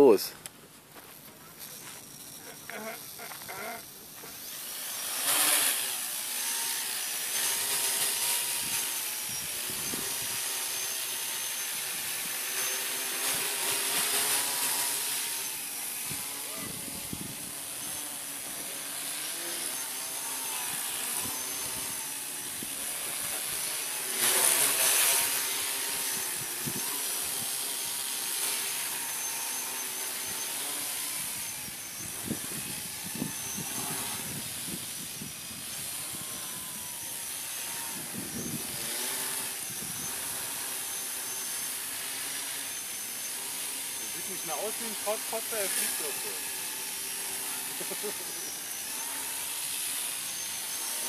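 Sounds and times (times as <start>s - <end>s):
drone motors buzzing: 0.0s - 51.0s.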